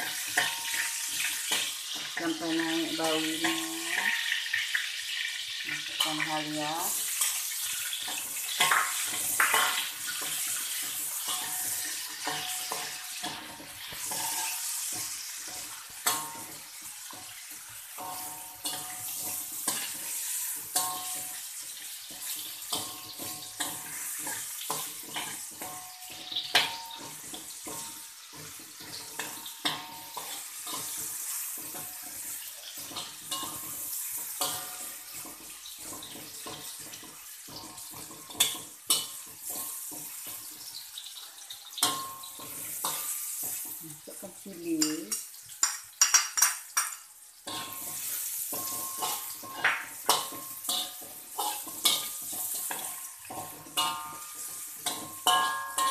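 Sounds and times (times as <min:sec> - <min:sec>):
garlic and ginger sizzling in oil: 0:00.0 - 0:55.9
spatula scraping and tapping wok: 0:00.0 - 0:55.9.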